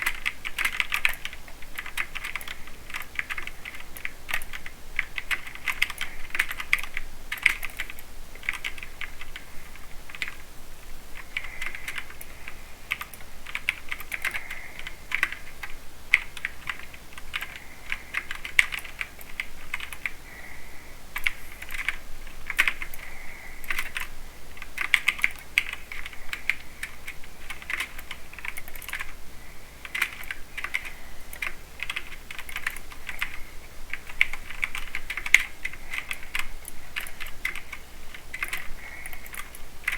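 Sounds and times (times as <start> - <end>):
mechanical keyboard typing: 0.0 - 10.5, 11.2 - 20.2, 21.2 - 29.2, 29.8 - 39.9.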